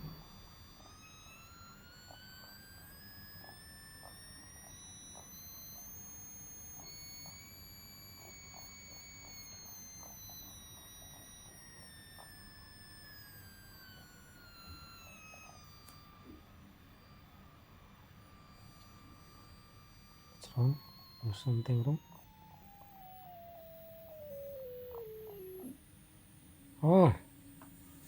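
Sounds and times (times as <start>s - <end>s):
faint irregular ticking: 0.0s - 28.0s
stepper motor whine: 0.0s - 28.0s.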